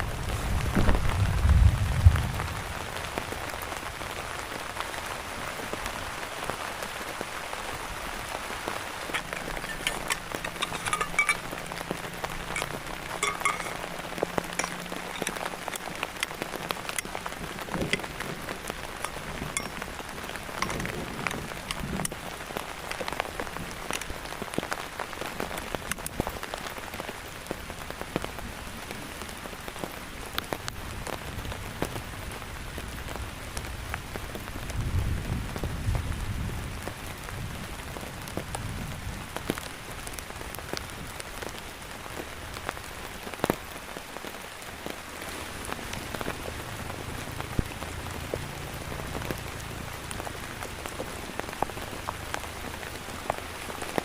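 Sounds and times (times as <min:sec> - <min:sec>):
raindrops ticking close by: 0:00.0 - 0:54.0
steady rain falling: 0:00.0 - 0:54.0.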